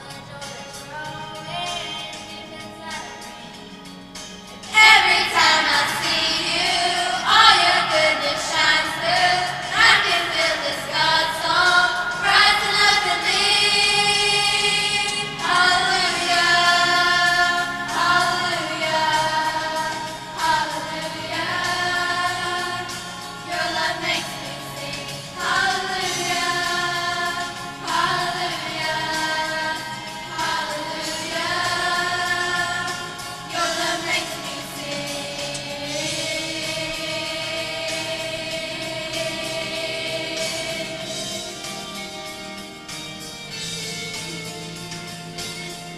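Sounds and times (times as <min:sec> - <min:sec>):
choir singing: 0:04.6 - 0:42.4.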